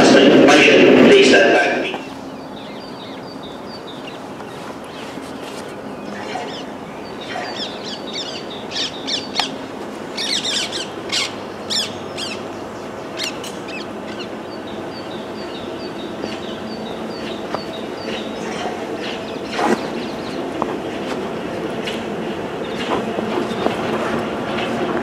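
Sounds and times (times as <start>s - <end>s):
town noise hum: 0.0s - 25.0s
small birds chirping: 1.9s - 24.8s.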